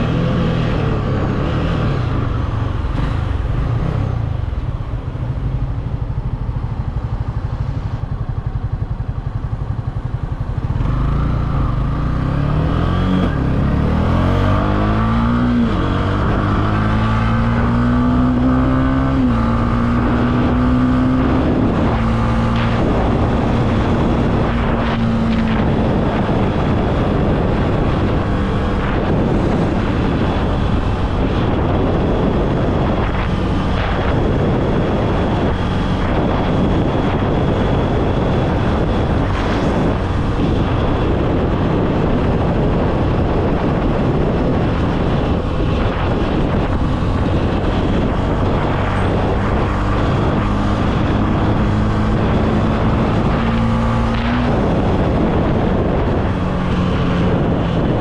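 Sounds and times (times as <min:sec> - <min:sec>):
motorcycle engine accelerating: 0:00.0 - 0:58.0
rushing wind noise: 0:00.0 - 0:58.0.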